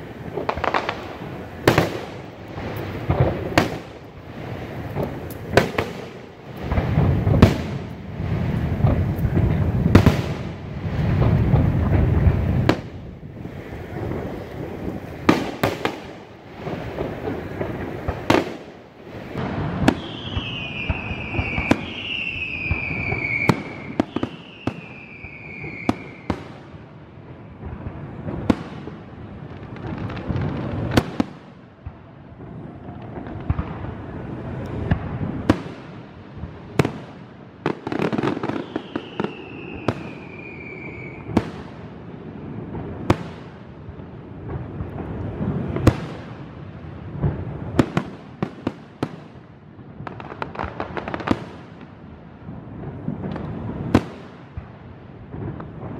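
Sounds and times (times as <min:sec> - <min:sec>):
firework bursts booming: 0:00.0 - 0:55.9
whistling fireworks: 0:00.0 - 0:55.9.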